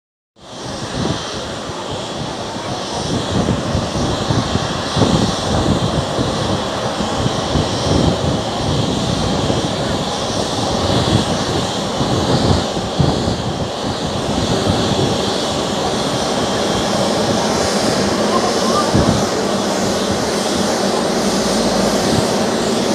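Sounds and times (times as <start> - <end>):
jet engines running: 0.4 - 22.9.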